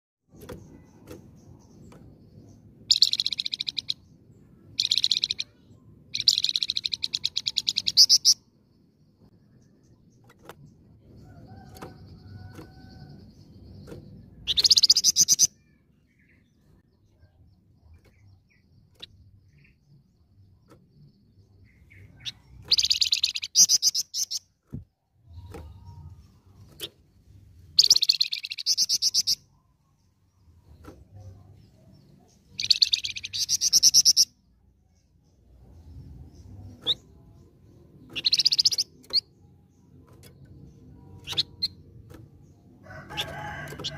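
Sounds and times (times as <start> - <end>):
songbird singing trilled phrases: 0.3 - 24.6, 25.3 - 43.9.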